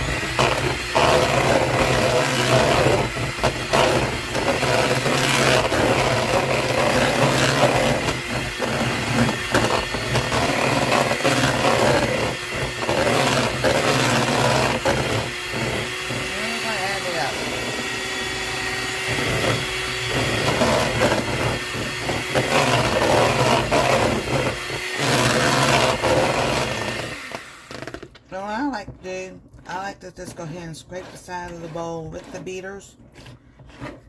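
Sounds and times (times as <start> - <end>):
electric hand mixer running: 0.0 - 29.9.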